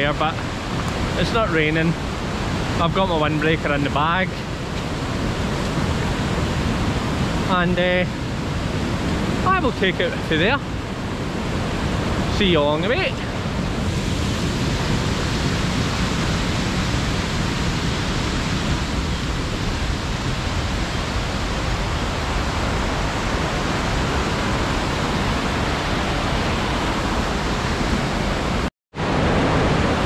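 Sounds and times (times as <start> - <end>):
stream and waterfalls rushing: 0.0 - 30.0.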